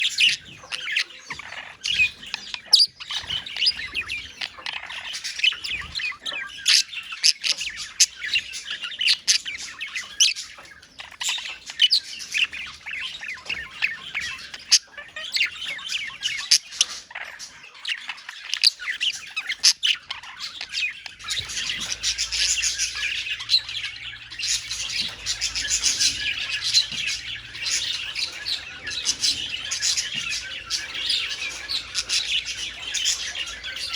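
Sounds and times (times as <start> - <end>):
budgerigars chirping: 0.0 - 33.9.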